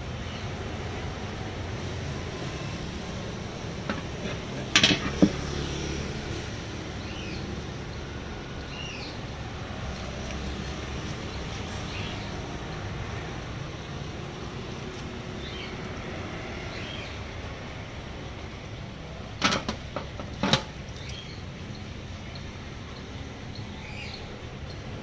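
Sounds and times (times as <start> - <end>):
traffic hum: 0.0 - 25.0.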